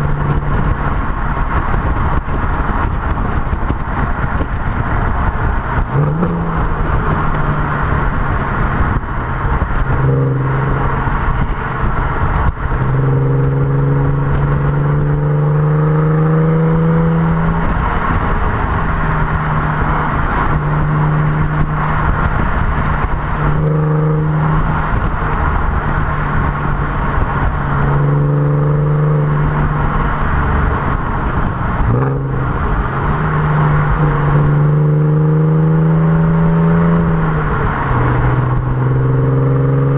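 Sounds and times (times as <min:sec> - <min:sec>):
car engine and exhaust: 0:00.0 - 0:39.9
tyre and wind noise: 0:00.0 - 0:39.9.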